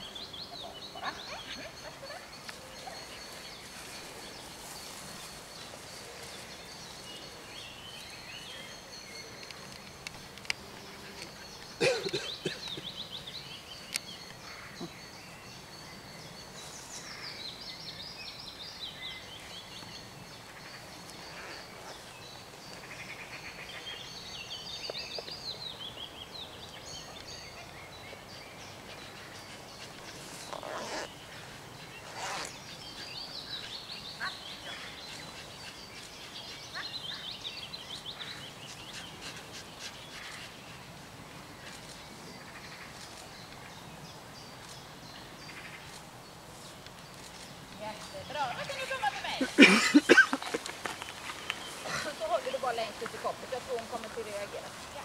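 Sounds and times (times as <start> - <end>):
small birds singing and chirping: 0.0 - 55.0.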